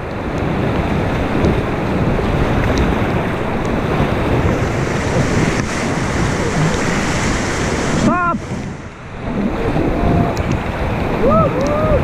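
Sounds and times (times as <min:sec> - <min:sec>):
rushing river water: 0:00.0 - 0:12.0
wind buffeting microphone: 0:00.0 - 0:12.0.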